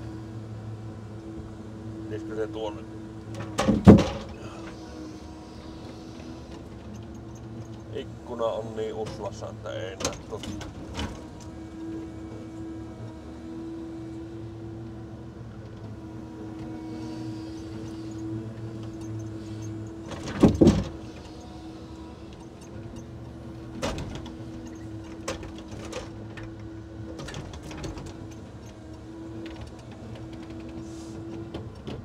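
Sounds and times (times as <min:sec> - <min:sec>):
hydraulics humming: 0:00.0 - 0:32.0.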